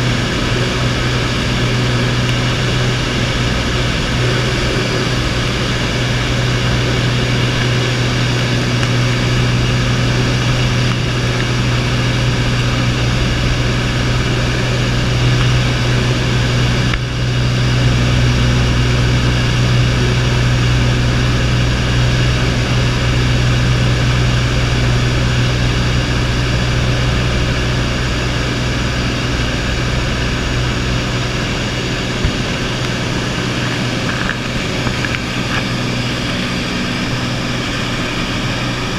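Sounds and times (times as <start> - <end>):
propeller aircraft engine hum: 0.0 - 38.9.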